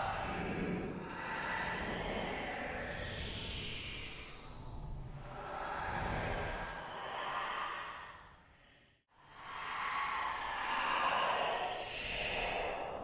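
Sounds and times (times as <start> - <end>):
ghostly breathy sighing: 0.0 - 13.0.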